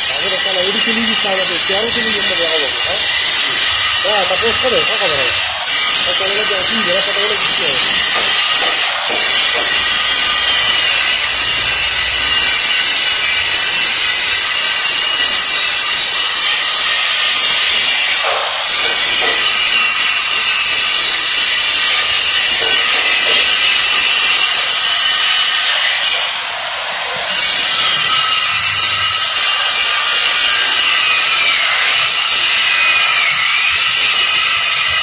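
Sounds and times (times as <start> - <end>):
angle grinder grinding steel: 0.0 - 35.0.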